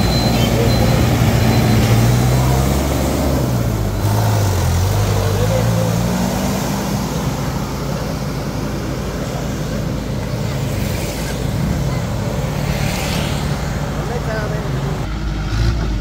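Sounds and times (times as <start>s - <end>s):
road noise: 0.0s - 16.0s
vehicle engines humming: 0.0s - 16.0s.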